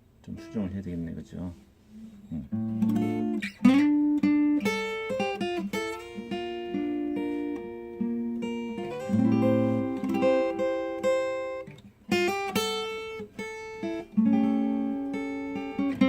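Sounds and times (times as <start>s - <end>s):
acoustic guitar strumming chords: 1.5s - 16.0s.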